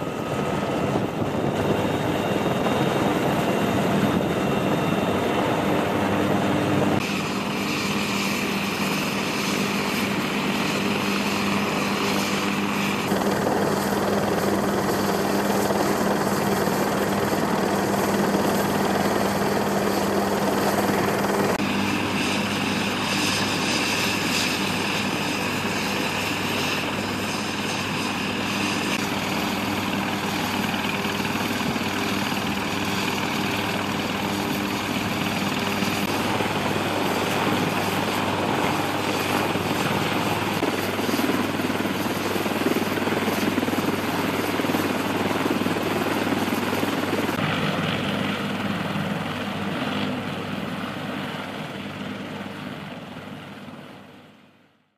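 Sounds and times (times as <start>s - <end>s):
helicopter engines and rotors droning: 0.0s - 54.9s.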